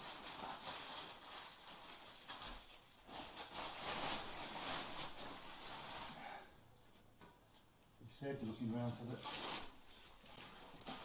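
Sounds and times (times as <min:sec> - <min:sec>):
plastic sheet rustling and crackling: 0:00.0 - 0:06.5, 0:08.6 - 0:11.0.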